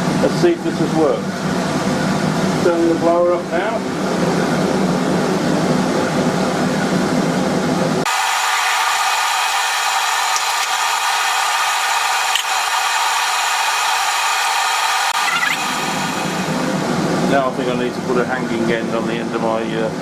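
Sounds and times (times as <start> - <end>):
forge blower whirring: 0.0 - 20.0.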